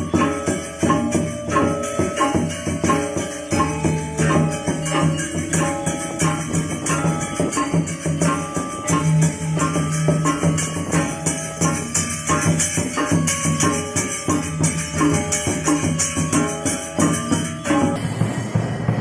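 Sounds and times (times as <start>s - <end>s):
held low tones: 0.0s - 18.9s
jingles and rattles shaken: 0.0s - 19.0s.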